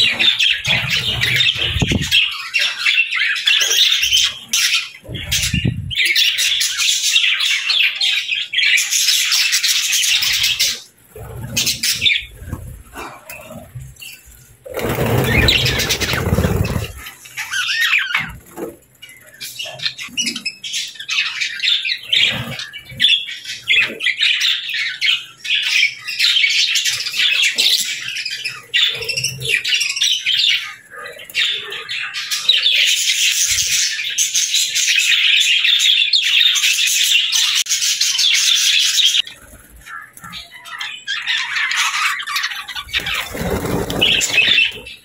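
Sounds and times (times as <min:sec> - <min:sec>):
budgerigars chattering and chirping: 0:00.0 - 0:45.0.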